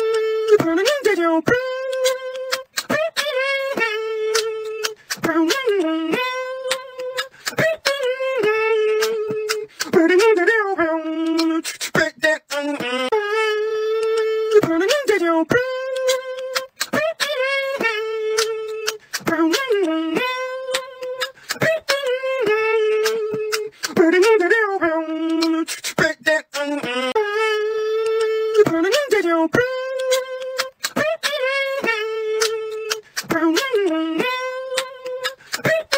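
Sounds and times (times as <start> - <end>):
person beatboxing: 0.0 - 35.9.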